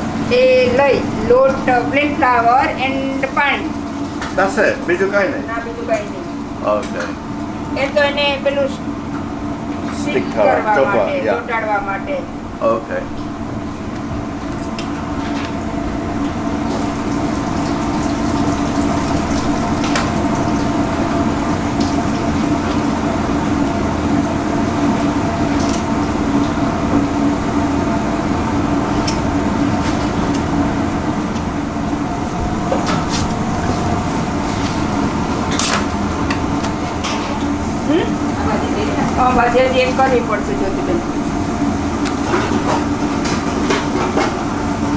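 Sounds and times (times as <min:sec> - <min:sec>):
kitchen machinery humming: 0:00.0 - 0:44.9.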